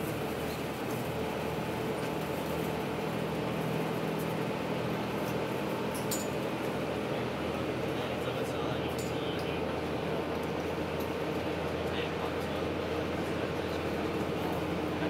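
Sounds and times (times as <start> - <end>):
train mechanical hum: 0.0 - 15.0.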